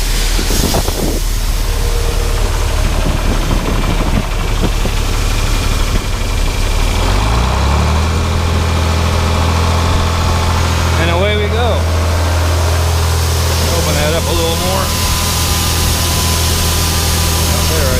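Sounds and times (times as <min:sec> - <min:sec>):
tractor engine revving: 0:00.0 - 0:17.9.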